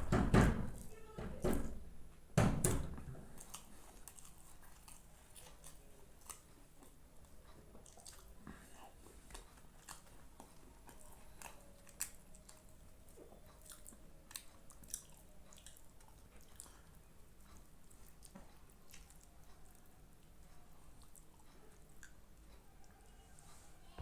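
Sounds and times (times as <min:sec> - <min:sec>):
person chewing food: 0:03.2 - 0:23.5.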